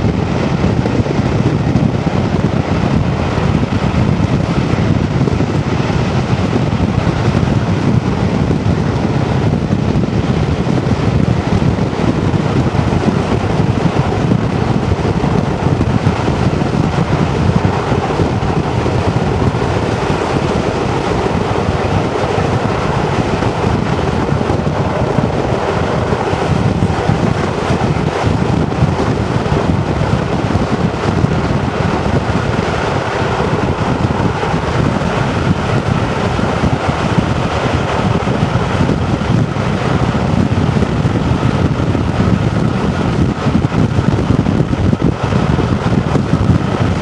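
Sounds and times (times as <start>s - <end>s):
train running noise: 0.0s - 47.0s
wind buffeting microphone: 0.0s - 47.0s.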